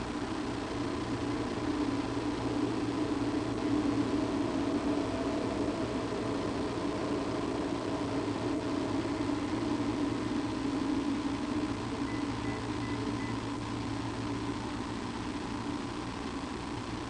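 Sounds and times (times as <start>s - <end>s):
low mechanical hum with hiss: 0.0s - 17.0s.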